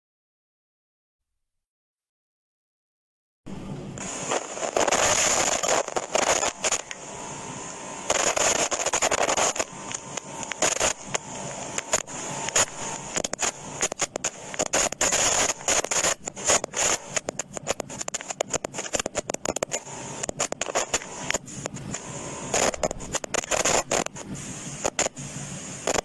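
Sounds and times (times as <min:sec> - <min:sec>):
high hiss: 0:03.6 - 0:26.0
microphone crackling and scratching: 0:04.0 - 0:07.0, 0:08.1 - 0:26.0.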